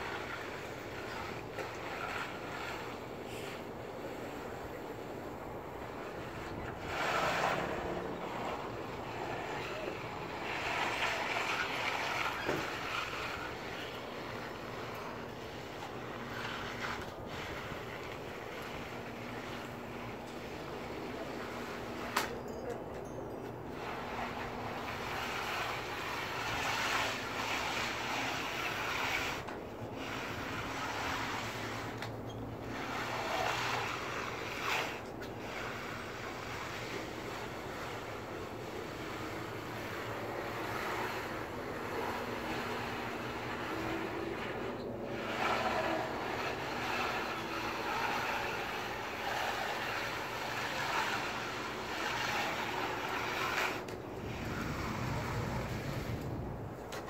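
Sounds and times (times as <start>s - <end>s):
float swishing over wet concrete: 0.0s - 57.0s.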